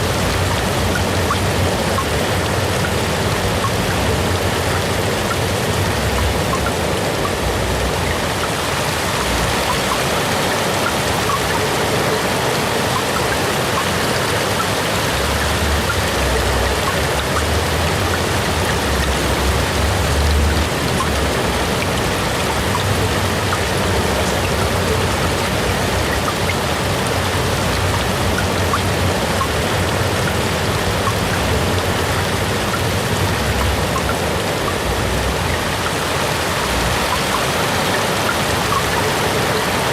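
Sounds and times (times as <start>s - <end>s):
rain hissing: 0.0s - 39.9s
raindrop ticks: 0.0s - 39.9s.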